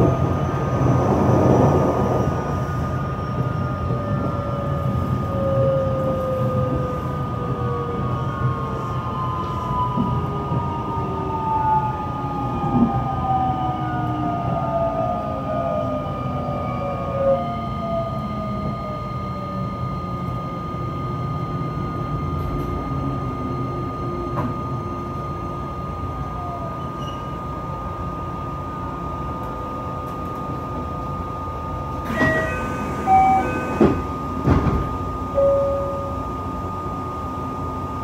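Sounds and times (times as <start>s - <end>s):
train inverter whine: 0.0s - 38.0s.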